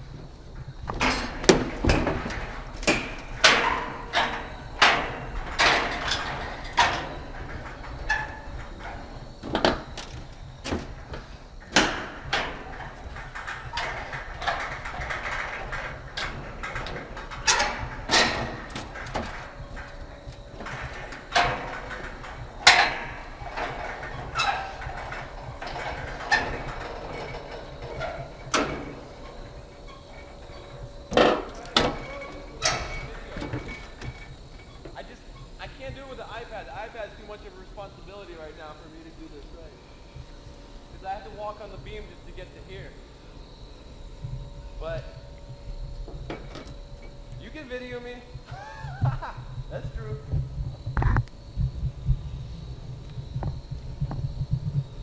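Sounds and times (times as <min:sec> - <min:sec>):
footsteps on metal scaffolding: 0:00.0 - 0:55.0.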